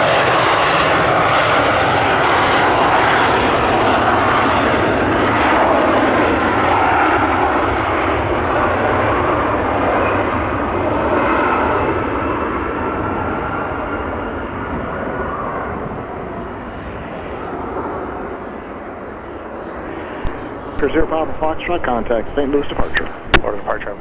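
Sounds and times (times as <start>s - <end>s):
faint jet whine: 0.0s - 24.0s
jet engines rumbling at takeoff: 0.0s - 24.0s.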